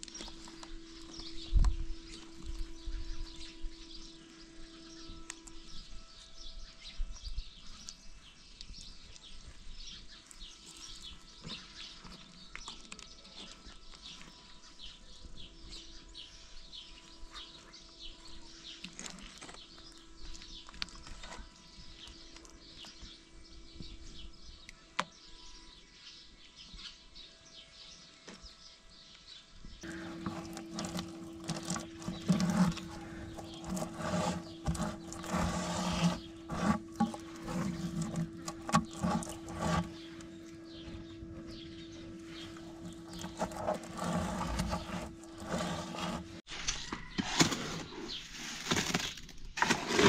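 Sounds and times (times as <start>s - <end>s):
small birds chirping: 0.0s - 46.4s.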